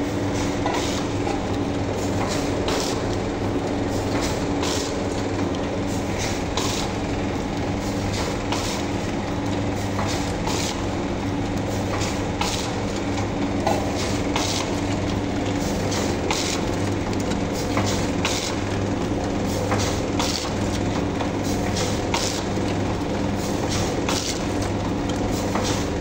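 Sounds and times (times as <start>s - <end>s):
packing machine humming: 0.0s - 26.0s.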